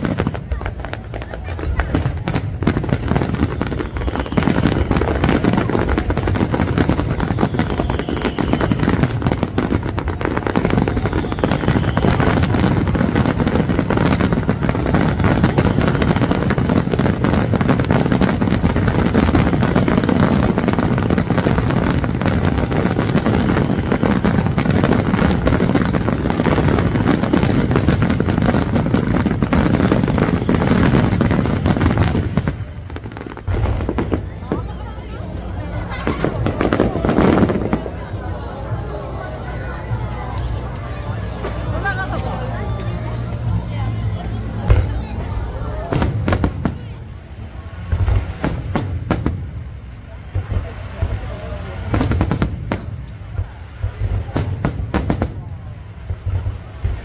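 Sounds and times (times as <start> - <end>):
fireworks bursting with crackling: 0.0 - 57.0.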